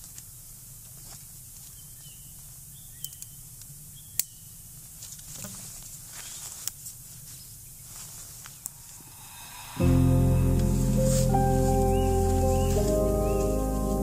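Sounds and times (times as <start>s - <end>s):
faint steady hiss: 2.4s - 14.0s.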